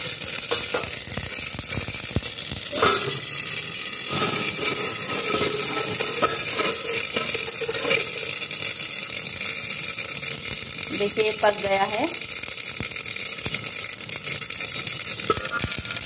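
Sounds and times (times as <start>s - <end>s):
seeds crackling in covered pan: 0.0s - 16.0s.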